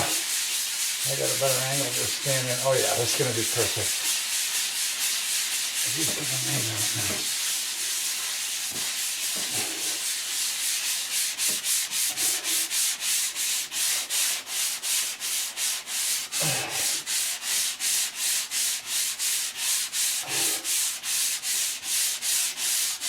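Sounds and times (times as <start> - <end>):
sanding block rasping on plaster: 0.0 - 23.0.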